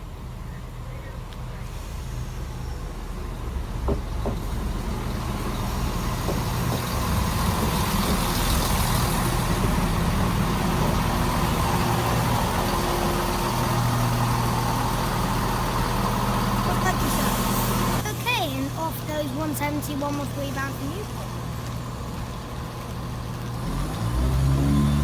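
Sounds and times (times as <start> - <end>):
diesel train engines droning: 0.0 - 25.0.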